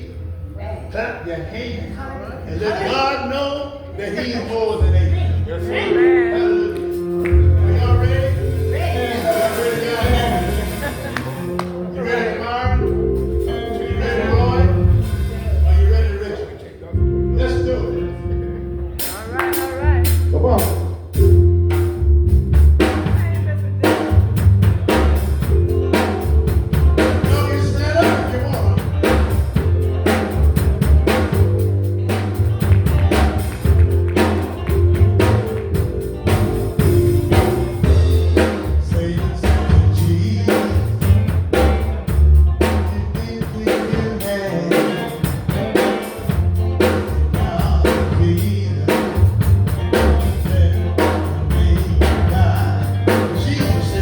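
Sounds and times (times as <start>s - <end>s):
gospel band playing: 0.0s - 54.0s.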